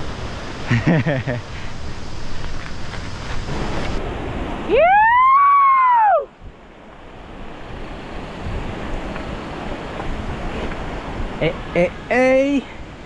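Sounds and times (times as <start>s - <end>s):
wind and riding noise: 0.0s - 13.0s.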